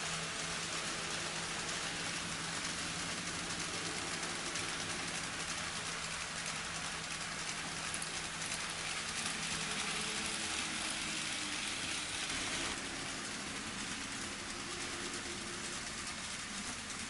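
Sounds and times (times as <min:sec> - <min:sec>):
faint motor hum: 0:00.0 - 0:17.0
fine rapid clicking: 0:00.0 - 0:17.0
model train wheels on rails: 0:00.0 - 0:17.0.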